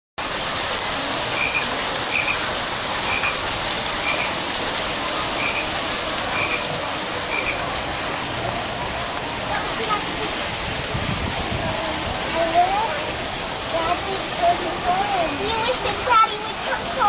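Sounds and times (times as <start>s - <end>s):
waterfall rushing into pond: 0.2s - 17.0s.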